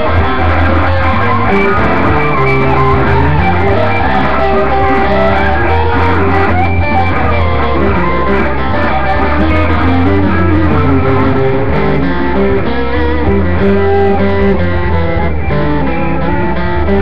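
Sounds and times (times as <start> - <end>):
blues-rock band recording: 0.0 - 17.0
electric guitar: 0.0 - 17.0.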